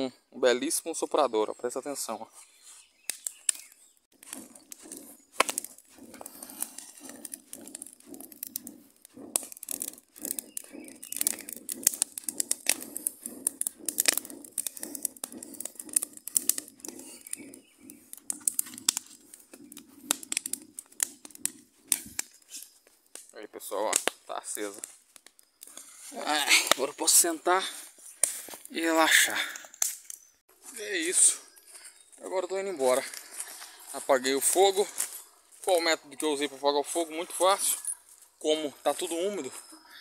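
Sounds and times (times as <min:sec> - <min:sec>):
campfire crackling and popping: 0:02.9 - 0:39.3.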